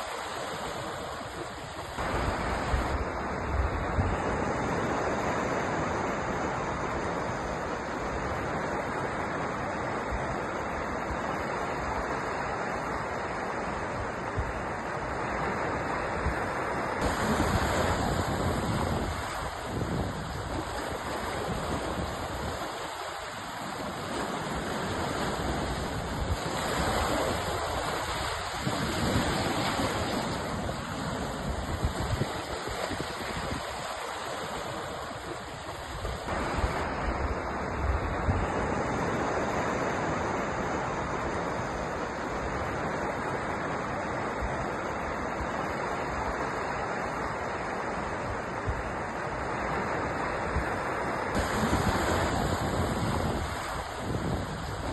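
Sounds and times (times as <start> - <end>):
ocean waves washing onto shore: 0.0 - 54.9.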